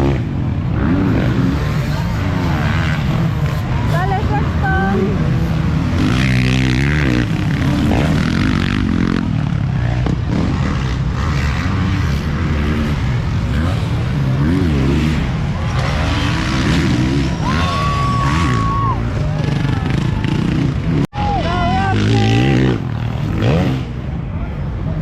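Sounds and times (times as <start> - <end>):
motocross bike engines revving: 0.0 - 25.0.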